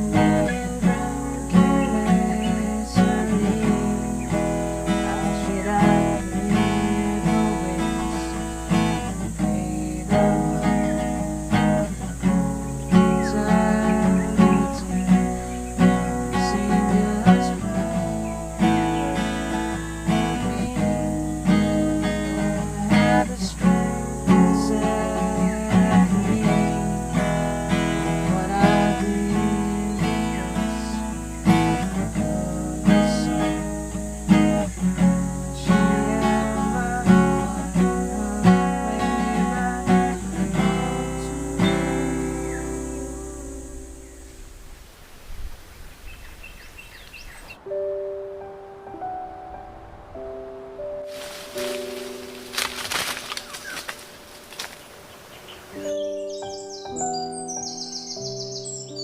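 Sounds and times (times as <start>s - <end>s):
acoustic guitar music: 0.0s - 44.8s, 47.6s - 59.0s.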